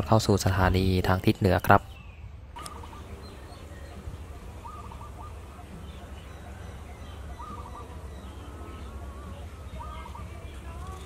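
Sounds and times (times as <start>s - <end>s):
bird calling: 1.6s - 11.0s
low outdoor rumble: 2.0s - 11.0s.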